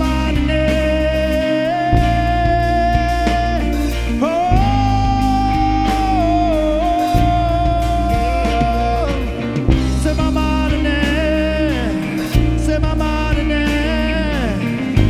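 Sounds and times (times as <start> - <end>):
worship band playing: 0.0 - 15.0
drum hits: 1.9 - 15.0.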